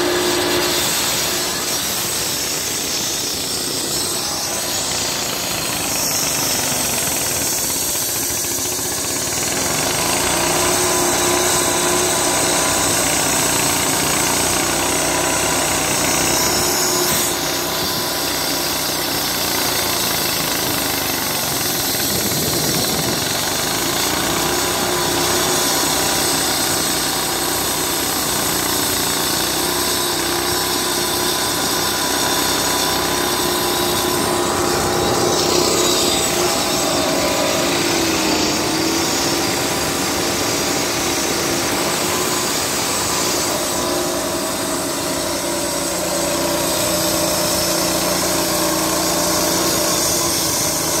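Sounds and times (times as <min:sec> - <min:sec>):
concrete saw engine hum: 0:00.0 - 0:51.0
saw blade grinding concrete: 0:00.0 - 0:51.0.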